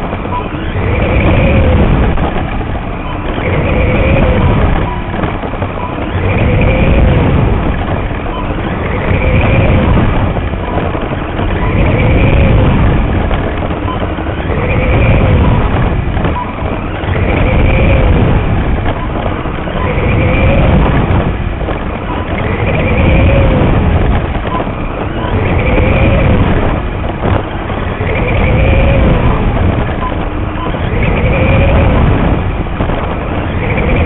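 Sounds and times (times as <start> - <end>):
steady rumble: 0.0 - 34.0.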